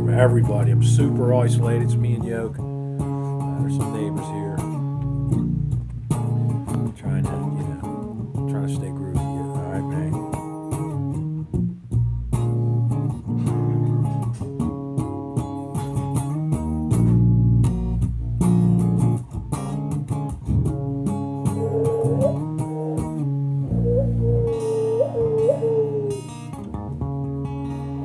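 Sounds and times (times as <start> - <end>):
guitar and bass music with beat: 0.0 - 28.0.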